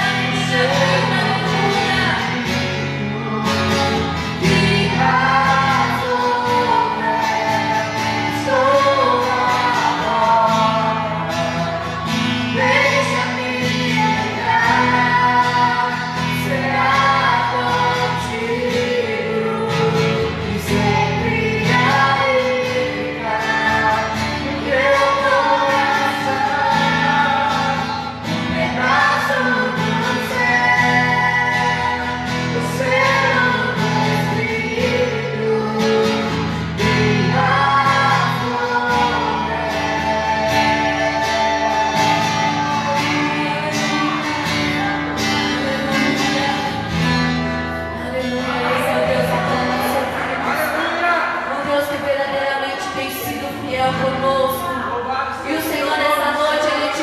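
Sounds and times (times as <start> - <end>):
group singing worship song: 0.0 - 57.0.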